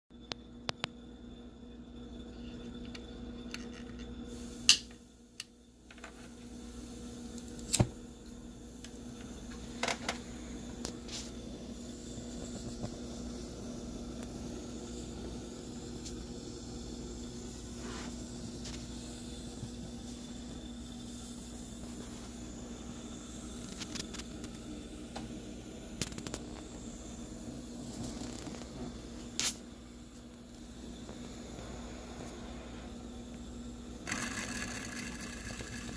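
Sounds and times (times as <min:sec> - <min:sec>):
burner hissing: 0:01.1 - 0:35.9.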